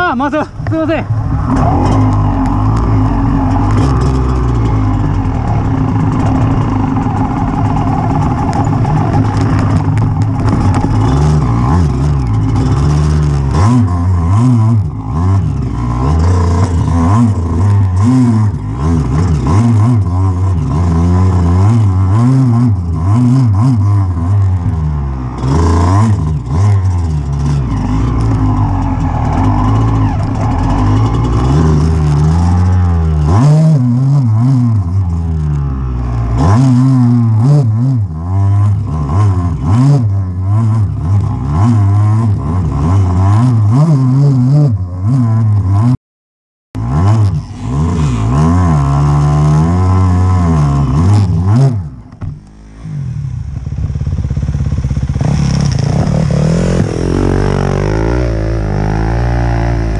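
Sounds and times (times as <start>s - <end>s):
motorcycle engine revving: 0.0s - 46.0s, 46.8s - 59.9s.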